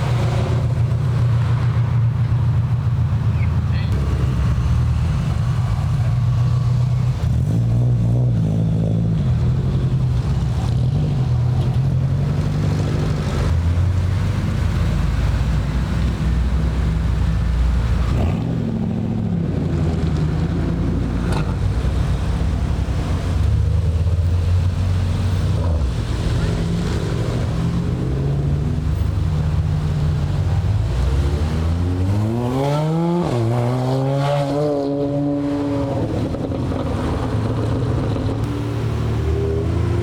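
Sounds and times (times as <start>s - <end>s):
car engines rumbling: 0.0s - 40.0s.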